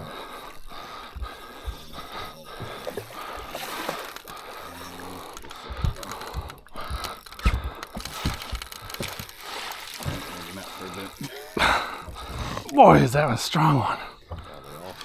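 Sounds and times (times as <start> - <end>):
fishing reel clicking: 0.0 - 15.0
thumps: 0.7 - 13.0.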